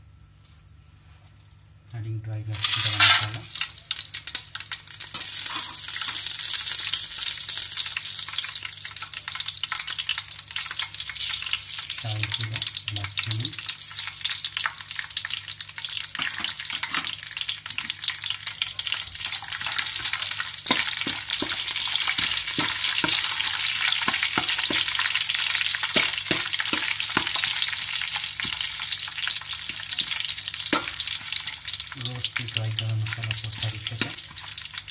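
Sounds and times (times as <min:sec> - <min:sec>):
spices sizzling in hot oil: 0:02.5 - 0:34.9.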